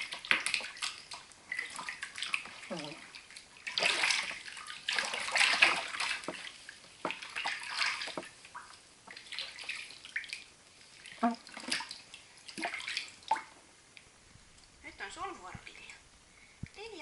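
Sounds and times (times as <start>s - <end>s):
bathwater splashing: 0.0s - 13.7s.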